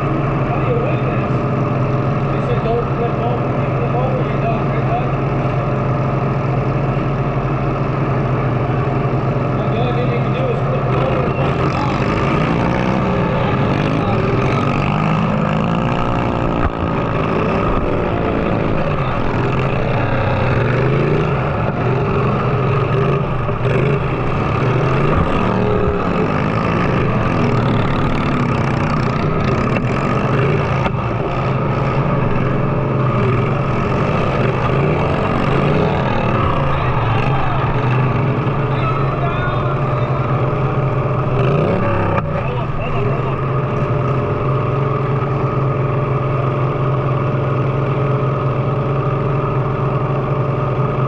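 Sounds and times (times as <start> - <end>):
riding lawn mower engines revving: 0.0 - 51.0.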